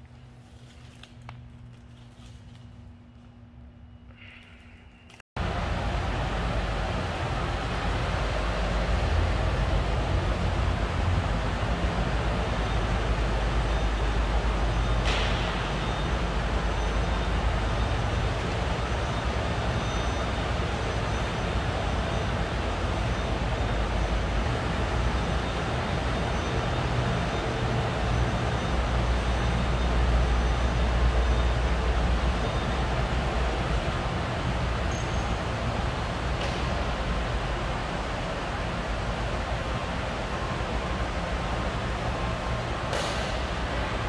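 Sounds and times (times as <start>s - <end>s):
factory hall low rumble and hiss: 0.0s - 44.0s.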